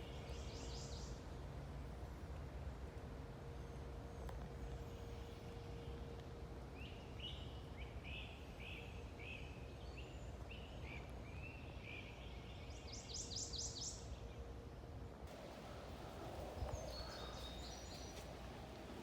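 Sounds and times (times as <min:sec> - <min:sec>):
songbird singing: 0:00.0 - 0:01.3, 0:04.2 - 0:14.5, 0:15.3 - 0:19.0.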